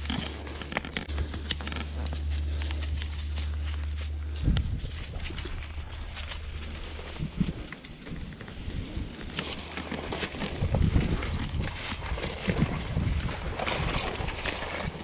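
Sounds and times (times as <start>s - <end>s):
footsteps through dry grass: 0.0s - 15.0s
knocks and crackles: 0.0s - 15.0s
low steady rumble: 0.0s - 15.0s.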